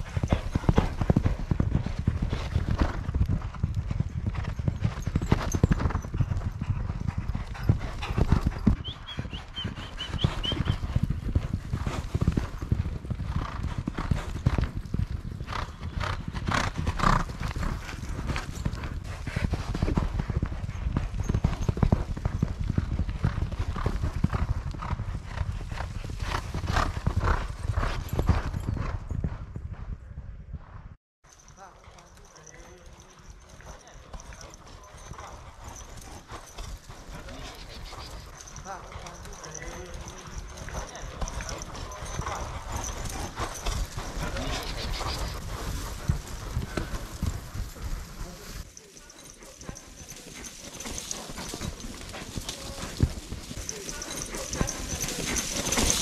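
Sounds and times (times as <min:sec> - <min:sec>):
hoofbeats of racehorses: 0:00.0 - 0:56.0.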